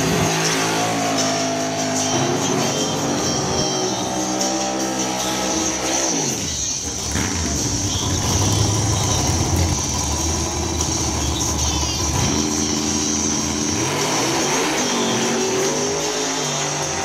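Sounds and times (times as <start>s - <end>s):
car engine idling with deep rumble: 0.0s - 16.0s.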